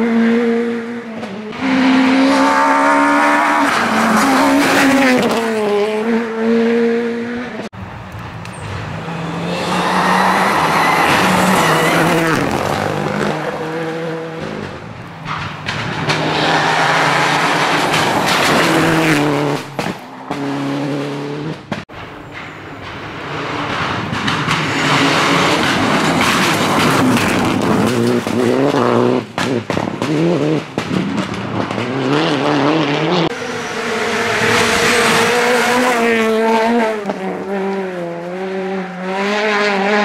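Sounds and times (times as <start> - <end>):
rally cars passing at speed: 0.0 - 40.0.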